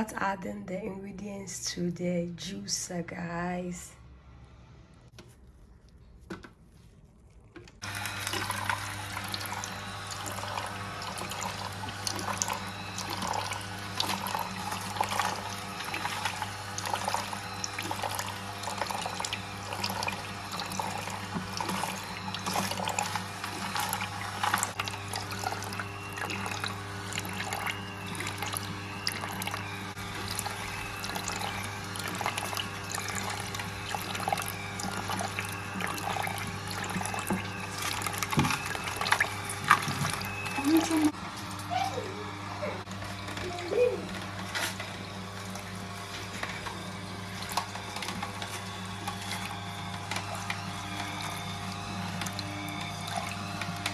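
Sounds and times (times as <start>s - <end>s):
juicer crushing with crackling: 5.9s - 53.9s
juicer motor hum: 7.4s - 53.9s.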